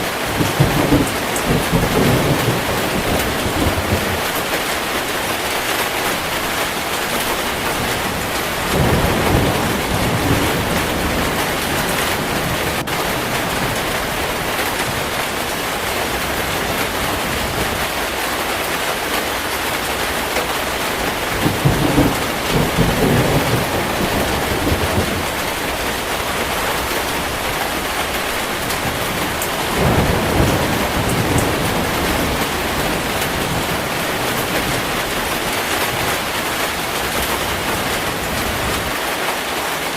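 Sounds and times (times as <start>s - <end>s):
heavy rain pouring: 0.0s - 39.9s
low rolls of thunder: 0.2s - 5.5s, 6.2s - 18.0s, 19.8s - 38.9s.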